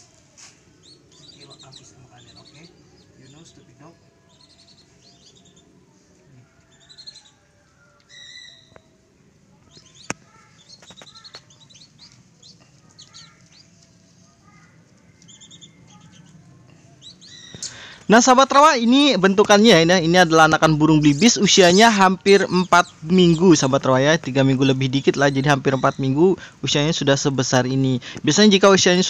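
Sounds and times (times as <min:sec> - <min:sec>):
ducklings peeping: 0:00.8 - 0:05.7, 0:06.5 - 0:07.4, 0:09.6 - 0:29.0.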